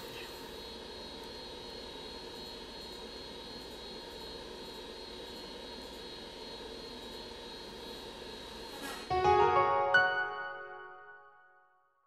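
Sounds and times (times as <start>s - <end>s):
background hum and hiss: 0.0s - 10.9s.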